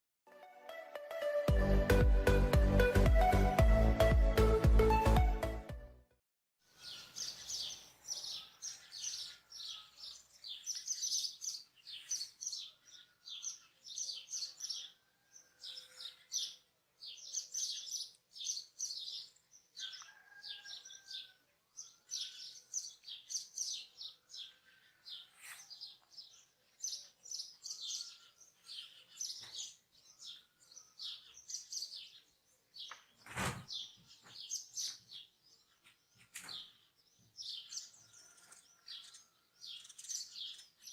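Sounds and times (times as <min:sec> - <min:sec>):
songbirds chirping and twittering: 0:06.6 - 0:40.9.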